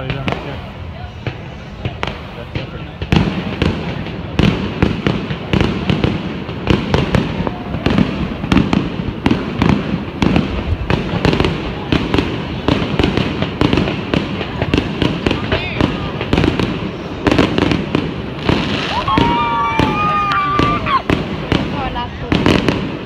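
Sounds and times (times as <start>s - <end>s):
continuous rumble: 0.0s - 23.0s
fireworks bangs and crackles: 0.0s - 23.0s.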